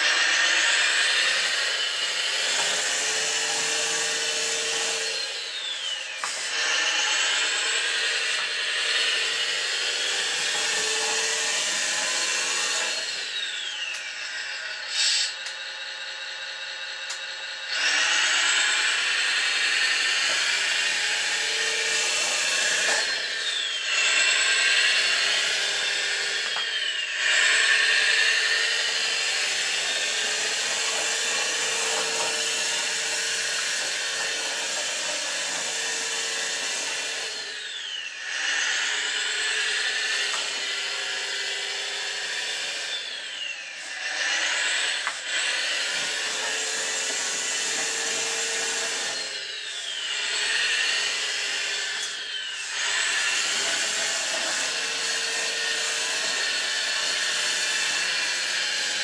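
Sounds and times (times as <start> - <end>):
toy truck electric drive whirring: 0.0 - 59.0.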